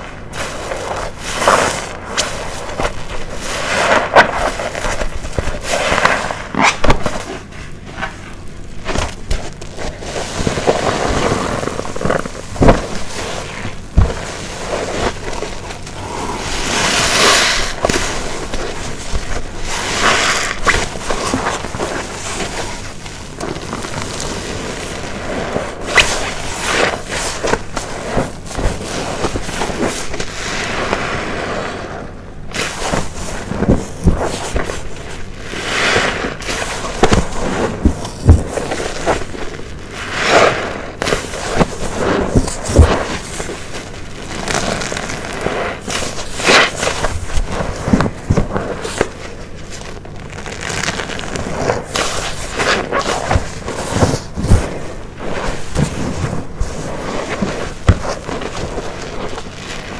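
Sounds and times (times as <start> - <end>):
wet sponge squelching: 0.0 - 59.9.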